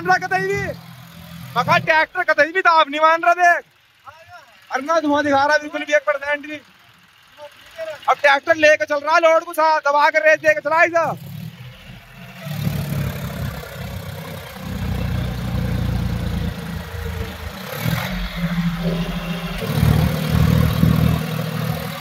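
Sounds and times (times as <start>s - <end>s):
tractor diesel engine labouring: 0.0s - 22.0s.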